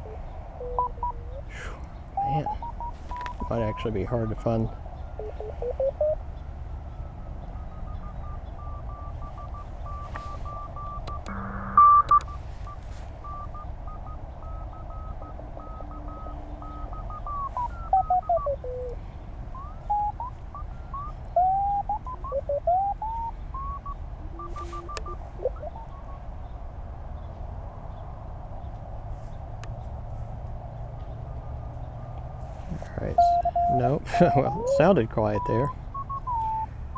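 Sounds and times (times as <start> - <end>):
radio band noise: 0.0 - 26.2, 32.6 - 36.9
morse code beeping tones: 0.0 - 26.3, 32.7 - 36.9.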